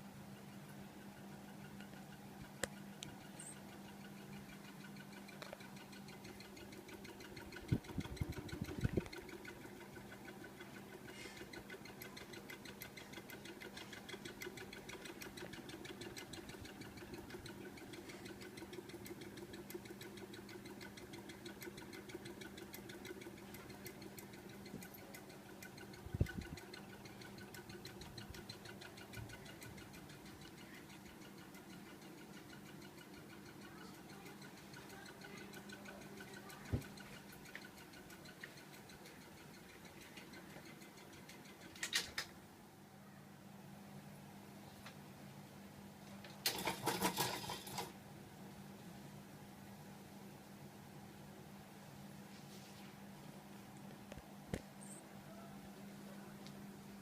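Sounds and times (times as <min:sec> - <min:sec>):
ceiling fan motor hum: 0:00.0 - 0:57.0.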